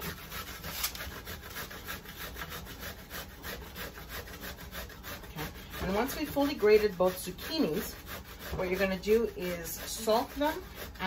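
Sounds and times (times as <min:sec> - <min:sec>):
grater scraping strokes: 0:00.0 - 0:11.0.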